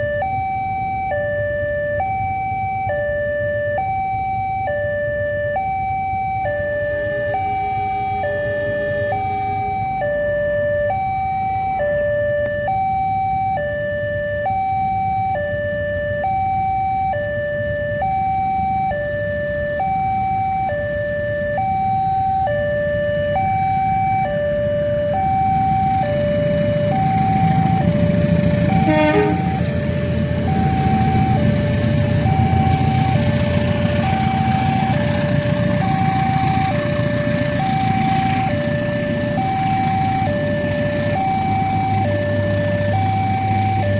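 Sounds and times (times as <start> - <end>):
two-tone warning siren wailing: 0.0 - 43.9.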